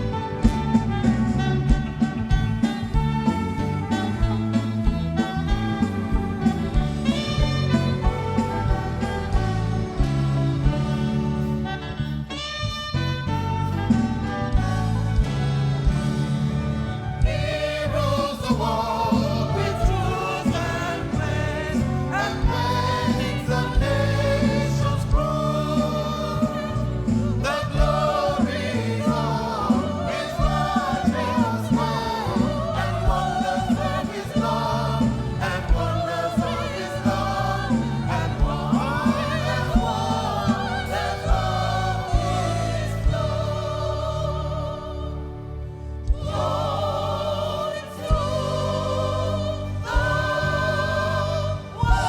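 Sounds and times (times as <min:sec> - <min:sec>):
gospel choir singing: 0:00.0 - 0:12.3, 0:13.1 - 0:52.0
bass notes: 0:00.0 - 0:52.0.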